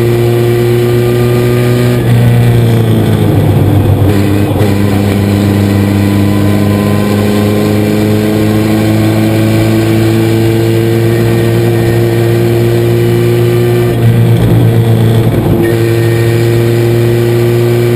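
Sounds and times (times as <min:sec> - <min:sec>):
truck engine accelerating: 0:00.0 - 0:17.9.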